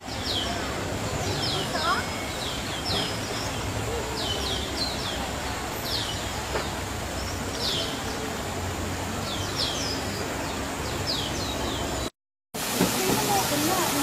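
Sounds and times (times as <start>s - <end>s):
small birds chirping: 0.0s - 12.1s
outdoor background noise: 0.0s - 14.0s.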